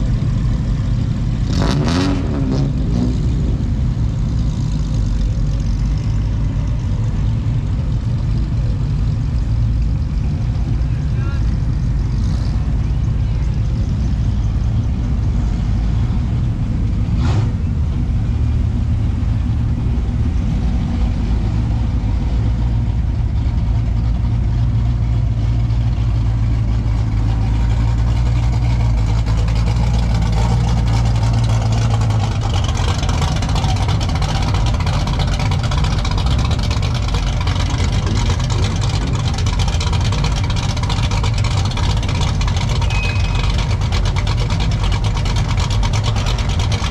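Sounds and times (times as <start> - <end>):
car engine idling: 0.0 - 1.5, 2.7 - 46.9.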